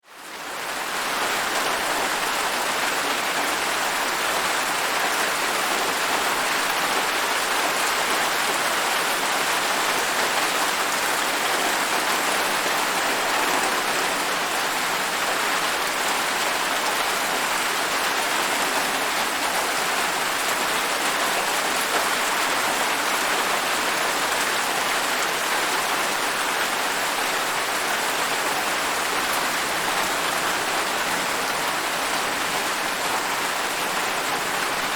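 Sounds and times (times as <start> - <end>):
heavy rain pattering: 0.0 - 34.9.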